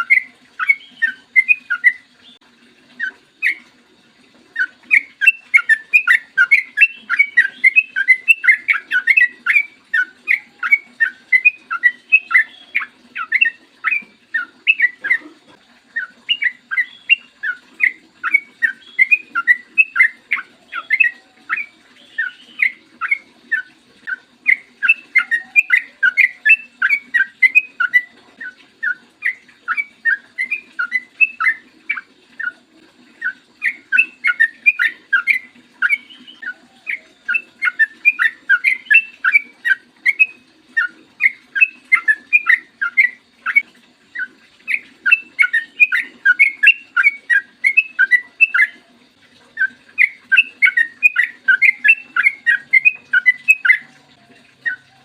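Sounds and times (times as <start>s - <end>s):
bird chattering whistled notes: 0.0s - 2.0s, 4.6s - 15.3s, 15.9s - 32.6s, 33.2s - 43.6s, 44.2s - 48.8s, 49.6s - 53.9s.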